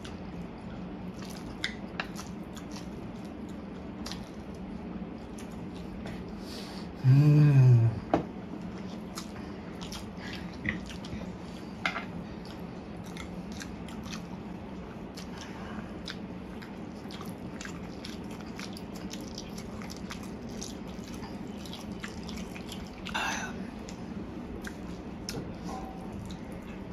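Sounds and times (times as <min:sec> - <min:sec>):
people slurping and chewing noodles: 0:00.0 - 0:07.8, 0:08.6 - 0:26.9
steady low hum: 0:00.0 - 0:26.9.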